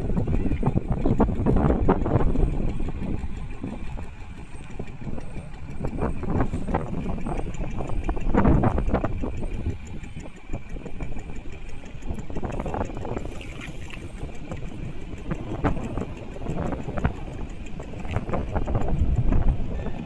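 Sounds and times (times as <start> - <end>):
small boat engine running: 0.0 - 20.0
waves splashing against hull: 0.0 - 20.0.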